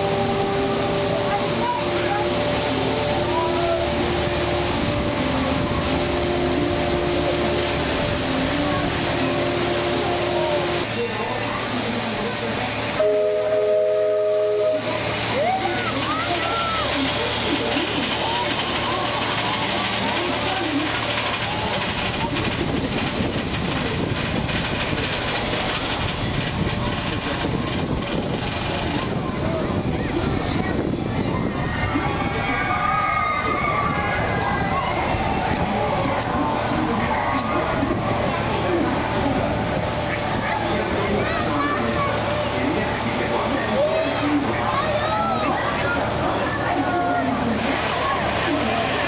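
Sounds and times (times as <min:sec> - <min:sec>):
boat motor noise: 0:00.0 - 0:49.0
moving vehicle rumbling: 0:00.0 - 0:49.0.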